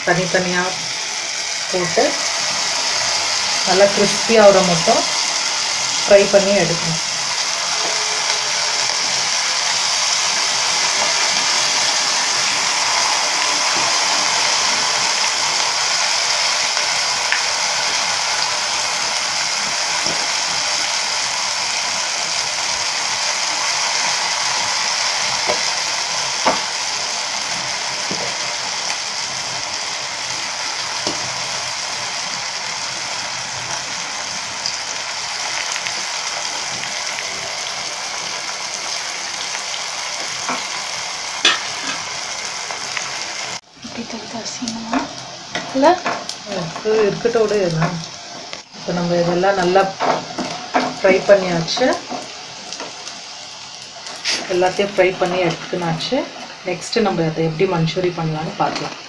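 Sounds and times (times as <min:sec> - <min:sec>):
hot oil sizzling: 0:00.0 - 0:59.0.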